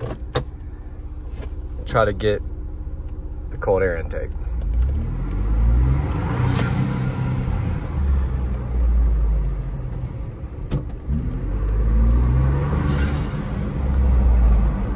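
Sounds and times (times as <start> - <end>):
car engine revving: 1.3 - 14.9.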